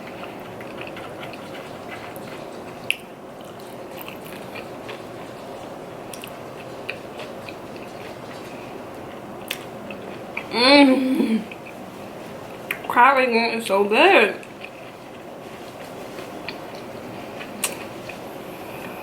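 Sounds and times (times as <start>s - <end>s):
person chewing food: 0.0s - 10.6s, 11.2s - 12.9s, 14.4s - 19.0s.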